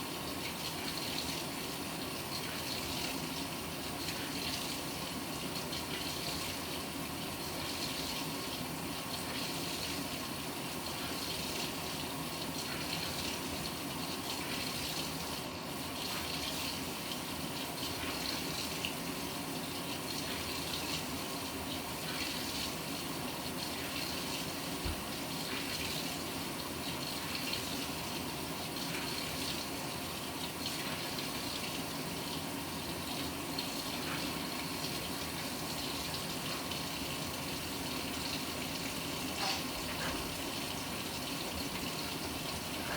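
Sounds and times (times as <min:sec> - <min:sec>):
water pouring into washing machine: 0:00.0 - 0:42.9.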